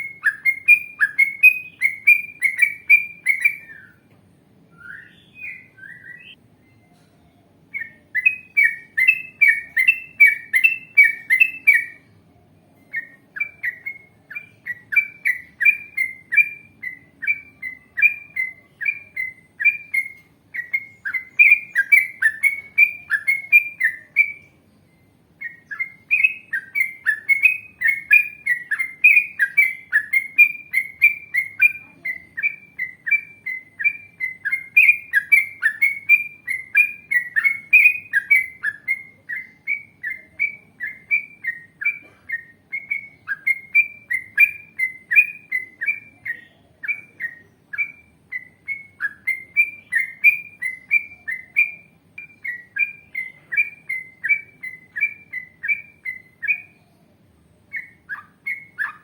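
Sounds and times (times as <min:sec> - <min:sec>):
bird singing bubbly chirps: 0:00.0 - 0:04.0, 0:04.8 - 0:06.9, 0:07.7 - 0:12.1, 0:12.9 - 0:59.0.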